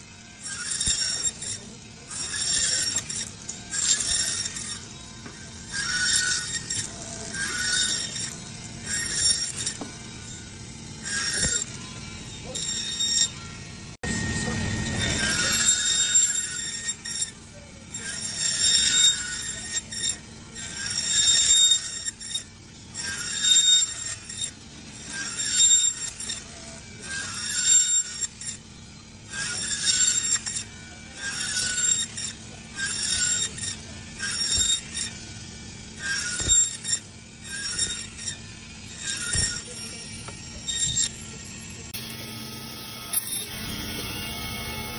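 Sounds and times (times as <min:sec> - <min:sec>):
band saw blade whining: 0:00.0 - 0:44.9
saw motor humming: 0:00.0 - 0:44.9.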